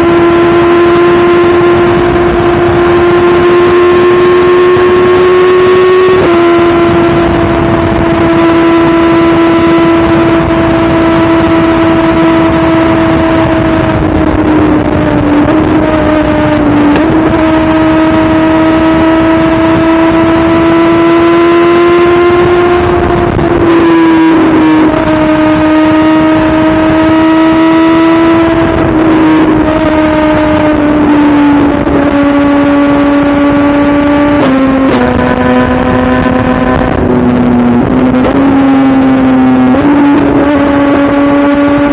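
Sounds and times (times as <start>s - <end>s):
motorcycle engine running hard: 0.0s - 41.9s
wind noise: 0.0s - 41.9s.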